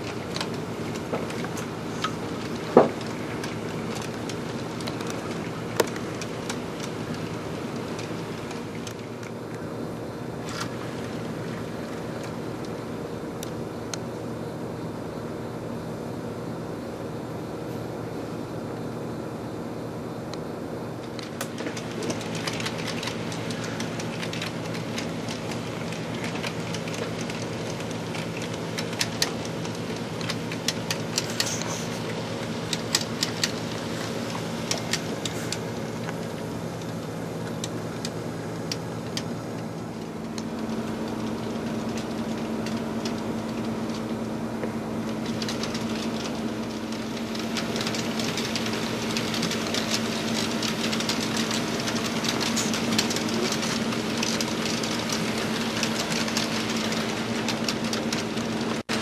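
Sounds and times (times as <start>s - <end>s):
wheels clicking over rail joints: 0.0s - 9.6s, 21.0s - 59.0s
model train electric hum: 0.0s - 59.0s.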